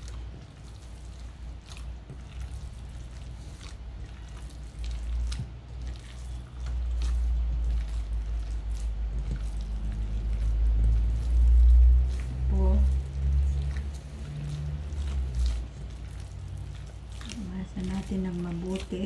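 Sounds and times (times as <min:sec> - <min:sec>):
hands squishing raw meat: 0:00.0 - 0:19.0.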